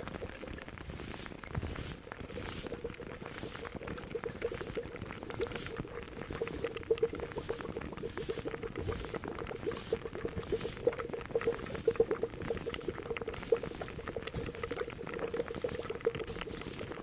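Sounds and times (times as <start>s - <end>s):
liquid boiling in a pot: 0.0s - 17.0s.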